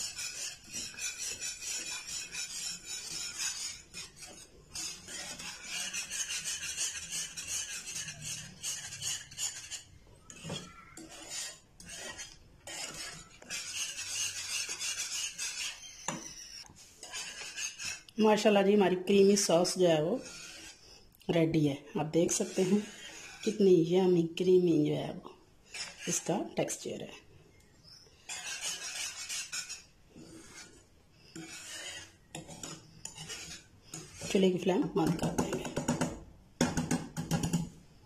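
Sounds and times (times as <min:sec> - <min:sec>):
metal whisk scraping a pan: 0:00.0 - 0:27.3, 0:27.9 - 0:37.7.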